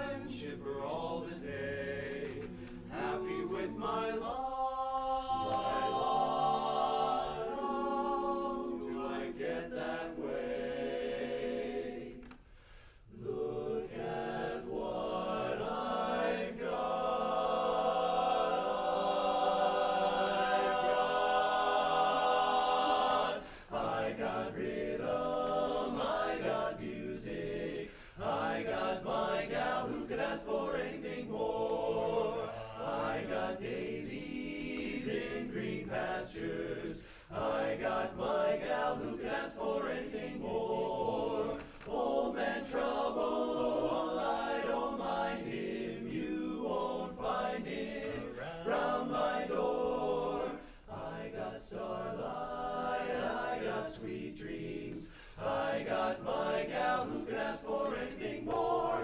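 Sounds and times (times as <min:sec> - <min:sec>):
men's chorus singing a cappella: 0:00.0 - 0:12.3, 0:13.1 - 0:59.0.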